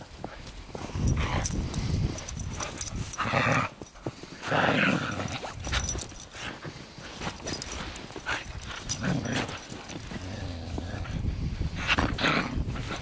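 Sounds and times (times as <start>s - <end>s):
paws crunching in snow: 0.0s - 13.0s
dog play growls: 2.4s - 13.0s.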